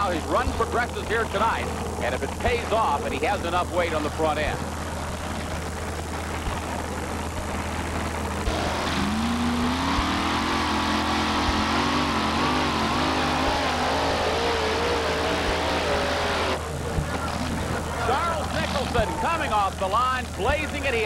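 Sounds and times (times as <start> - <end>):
supercharged truck engine revving: 0.0 - 21.0.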